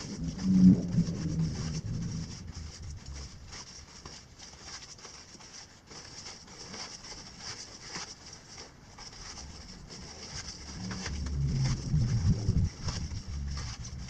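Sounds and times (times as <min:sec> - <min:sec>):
nylon fabric rustling: 0:00.0 - 0:14.0.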